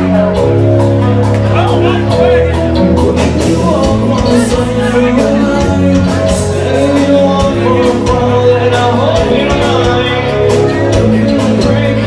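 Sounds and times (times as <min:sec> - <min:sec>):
drums steady beat: 0:00.0 - 0:12.0
rock band playing live: 0:00.0 - 0:12.0.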